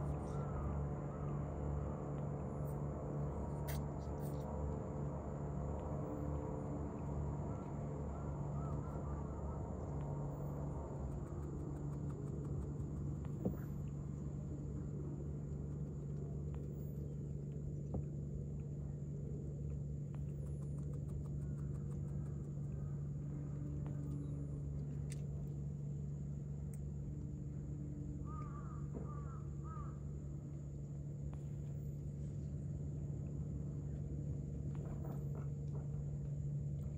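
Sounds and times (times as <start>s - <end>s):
low mechanical hum: 0.0s - 36.9s.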